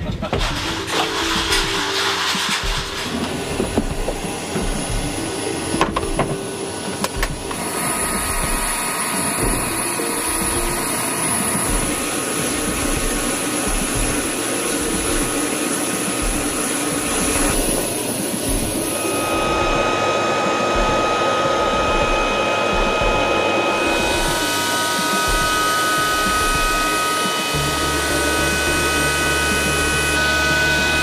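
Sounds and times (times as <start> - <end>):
high whine: 0.0 - 31.0
helicopter engines and rotors: 0.2 - 31.0
lower steady whine: 0.3 - 31.0.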